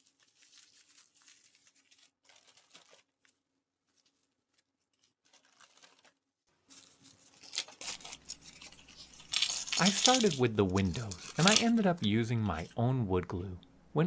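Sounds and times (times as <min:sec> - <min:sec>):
packaging crinkling and rustling: 0:00.0 - 0:12.8.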